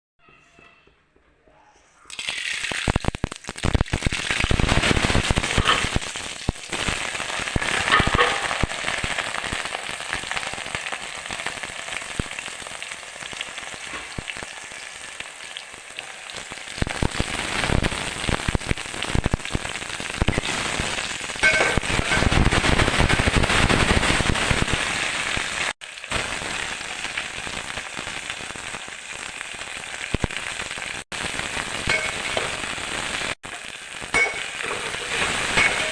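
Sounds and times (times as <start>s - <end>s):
hot oil sizzling in a pan: 2.1s - 35.9s.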